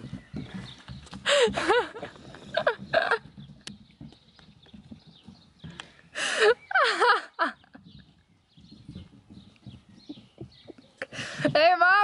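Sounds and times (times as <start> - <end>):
faint low thumping: 0.0 - 6.2, 7.6 - 12.0.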